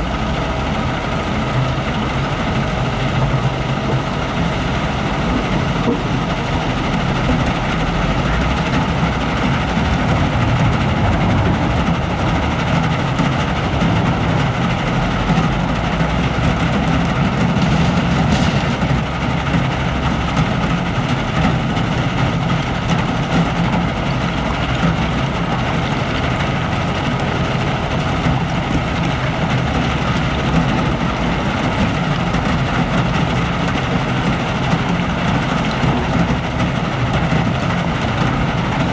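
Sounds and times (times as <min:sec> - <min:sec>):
wheel loader diesel engine running: 0:00.0 - 0:38.9.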